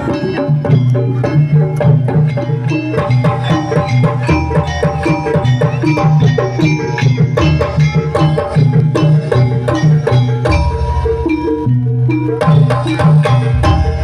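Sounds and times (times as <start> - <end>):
hand drums: 0.0 - 14.0
tuned gong percussion: 0.0 - 14.0.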